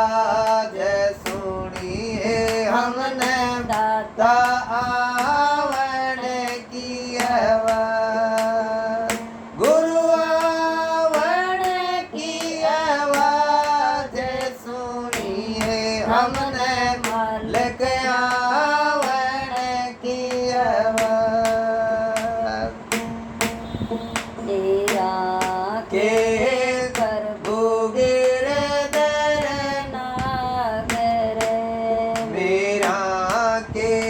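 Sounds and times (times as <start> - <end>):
person singing devotional song: 0.0 - 34.0
sharp rhythmic beats: 0.0 - 34.0.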